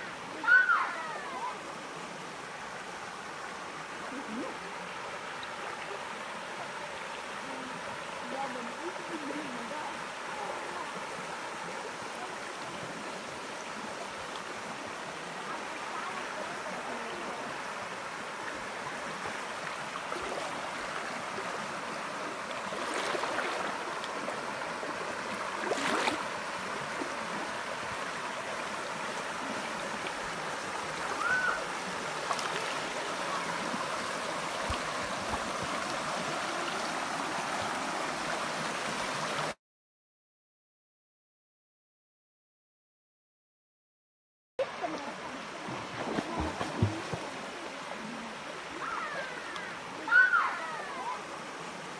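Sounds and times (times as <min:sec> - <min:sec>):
stream running over rocks: 0:00.0 - 0:39.6, 0:44.6 - 0:51.9.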